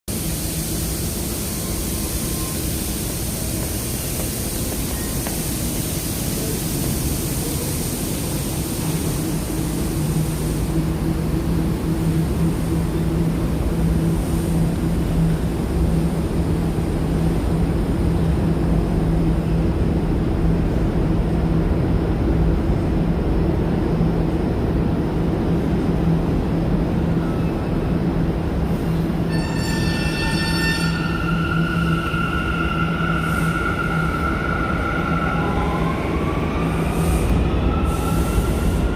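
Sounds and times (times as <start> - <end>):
subway train hum and rumble: 0.0 - 38.9.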